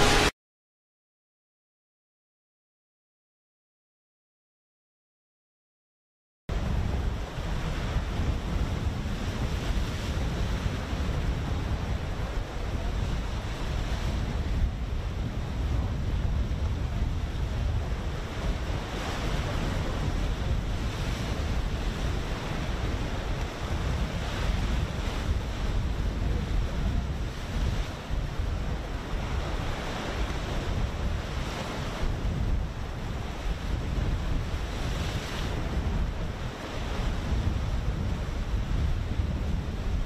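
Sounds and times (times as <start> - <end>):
choppy sea waves: 0.0 - 0.3, 6.5 - 40.0
wind buffeting microphone: 6.5 - 40.0.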